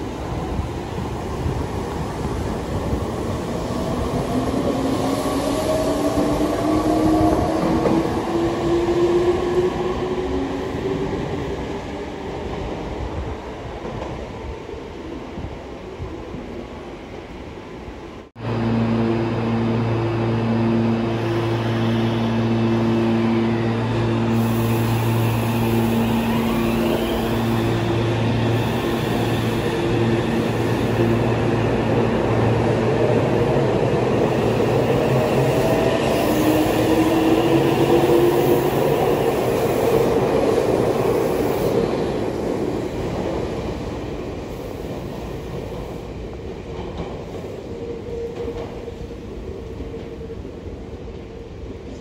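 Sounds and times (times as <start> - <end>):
train hum: 0.0 - 52.0.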